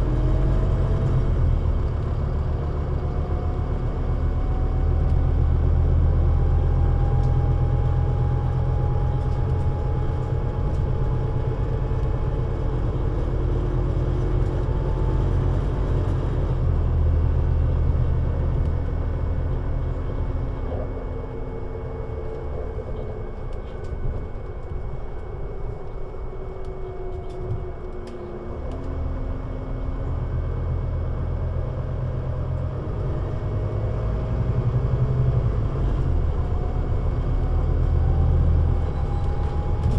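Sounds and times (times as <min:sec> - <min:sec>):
bus engine rumbling and whining: 0:00.0 - 0:39.9.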